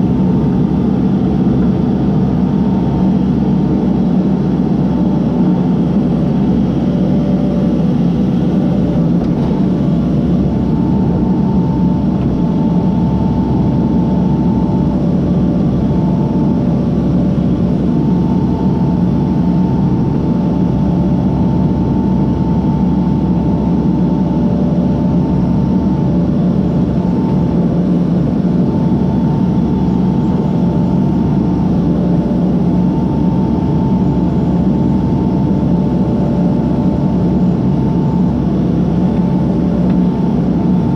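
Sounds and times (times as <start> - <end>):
diesel engine rumbling: 0.0 - 40.7.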